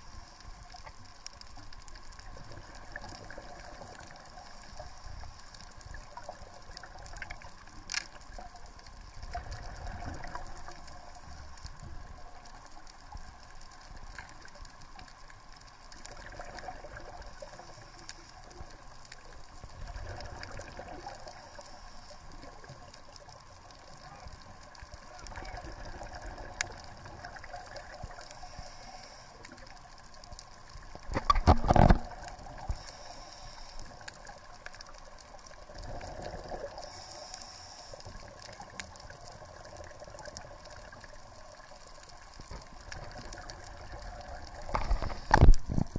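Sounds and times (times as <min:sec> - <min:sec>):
low underwater rumble: 0:00.0 - 0:45.9
scattered clicks and crackles: 0:00.0 - 0:45.9.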